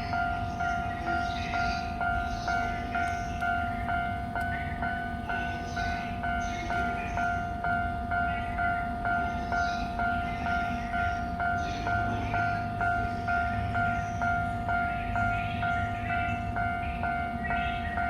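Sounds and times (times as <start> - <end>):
level crossing bell ringing: 0.0 - 18.0.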